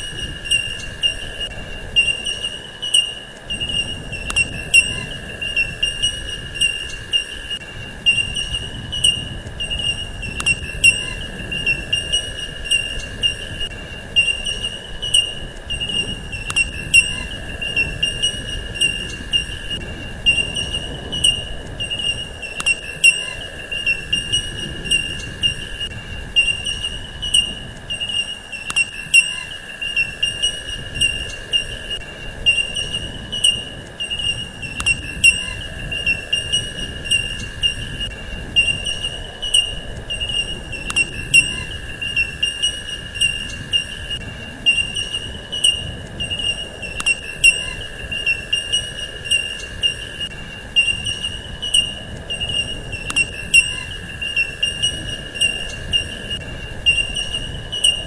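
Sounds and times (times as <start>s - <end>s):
sharp clicks: 0.0s - 41.5s, 42.2s - 47.6s
faint steady tone: 0.0s - 58.0s
insect chorus trilling: 0.0s - 58.0s.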